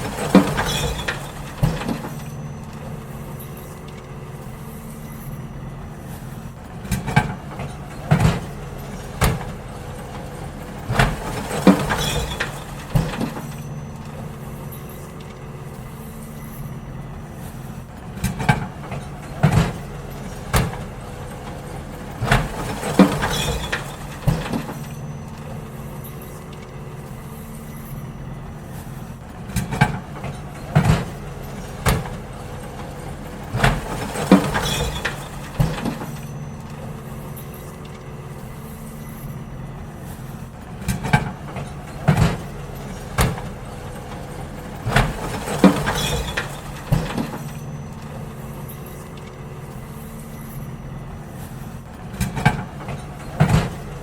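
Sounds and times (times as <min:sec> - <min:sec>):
bins banging and clattering: 0:00.0 - 0:54.0
truck diesel engine running: 0:00.0 - 0:54.0.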